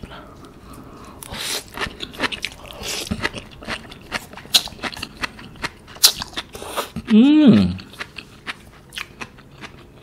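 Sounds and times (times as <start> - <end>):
biting and chewing: 0.7 - 10.0.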